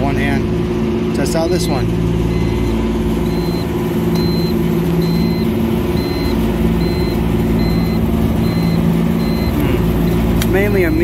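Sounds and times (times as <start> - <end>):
refrigeration unit hum: 0.0 - 11.0.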